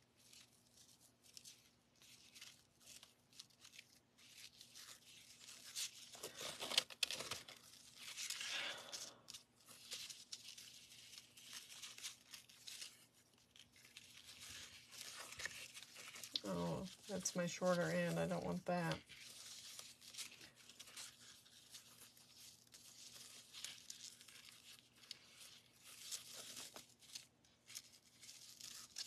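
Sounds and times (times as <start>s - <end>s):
ribbon and cardstock rustling: 0.0s - 29.0s.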